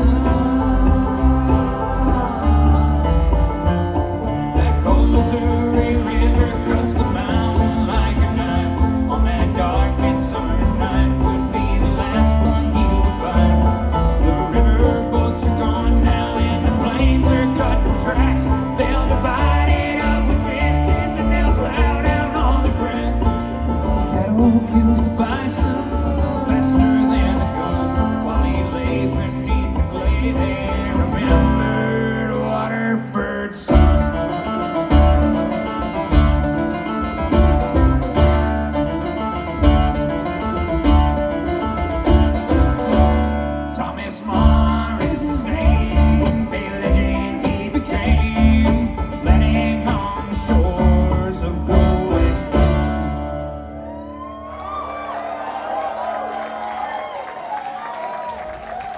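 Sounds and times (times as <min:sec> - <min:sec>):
bluegrass band playing: 0:00.0 - 0:56.9.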